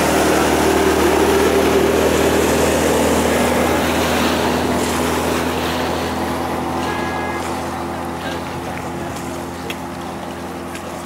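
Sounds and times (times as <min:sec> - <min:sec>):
outboard motor running: 0:00.0 - 0:11.0
water noise: 0:00.0 - 0:11.0
wind: 0:00.0 - 0:11.0.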